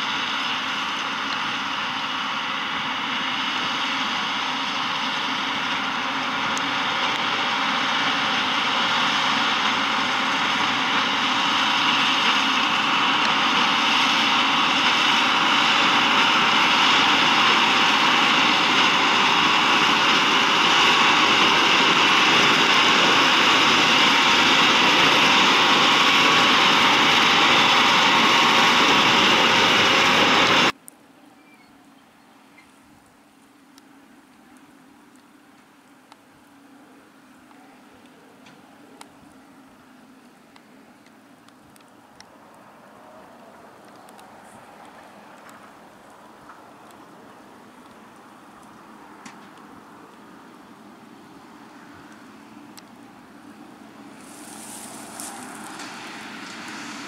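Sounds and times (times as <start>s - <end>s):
tractor and baler running: 0.0s - 30.8s, 34.6s - 57.0s.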